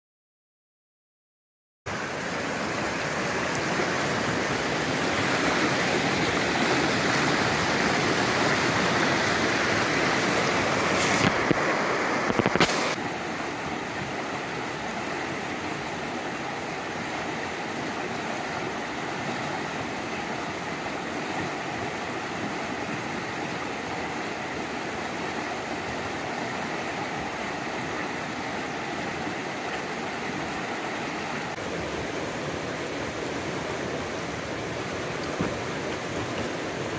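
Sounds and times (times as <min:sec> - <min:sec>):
water rushing over rocks: 0:01.9 - 0:36.9.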